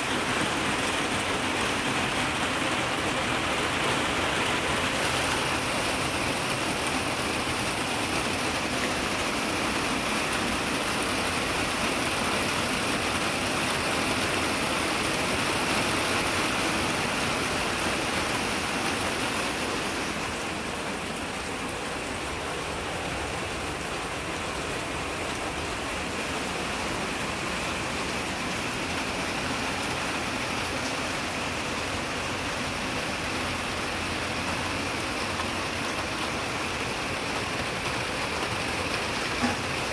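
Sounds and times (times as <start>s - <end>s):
rain on plastic panels: 0.0s - 39.9s.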